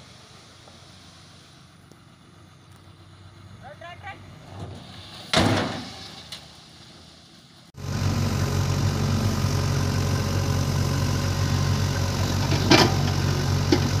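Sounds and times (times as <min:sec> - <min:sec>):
diesel engine running: 0:00.0 - 0:05.2, 0:06.1 - 0:14.0.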